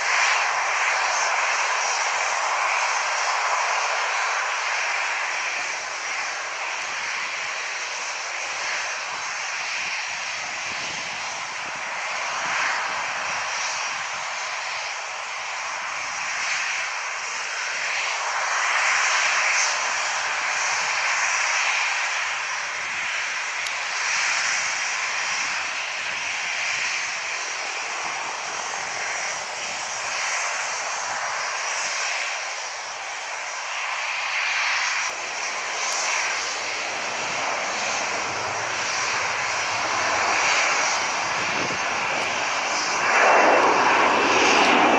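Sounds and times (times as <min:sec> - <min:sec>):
jet airliner engines rushing: 0:00.0 - 0:44.9.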